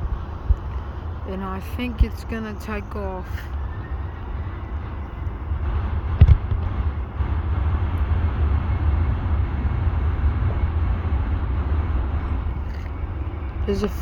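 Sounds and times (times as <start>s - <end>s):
distant jet engines roaring: 0.0s - 14.0s.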